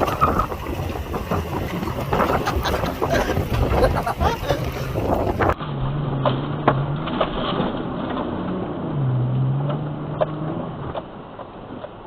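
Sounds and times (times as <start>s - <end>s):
suv engine droning: 0.0s - 12.0s.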